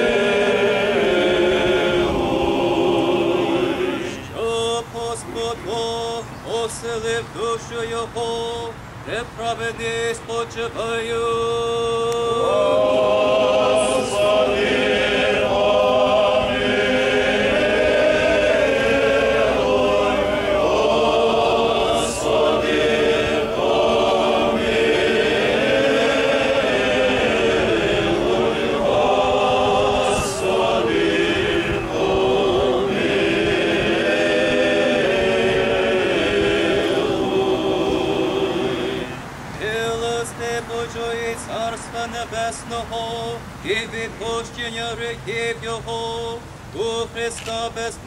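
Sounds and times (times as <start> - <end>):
choir chanting unaccompanied: 0.0 - 48.0.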